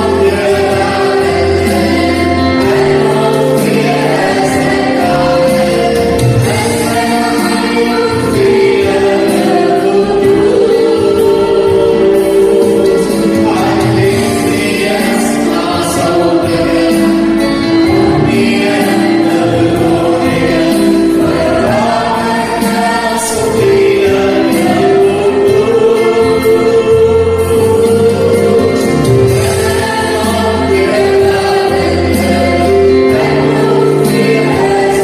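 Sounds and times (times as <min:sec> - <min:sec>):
choir singing a hymn: 0:00.0 - 0:35.0
instrumental accompaniment: 0:00.0 - 0:35.0.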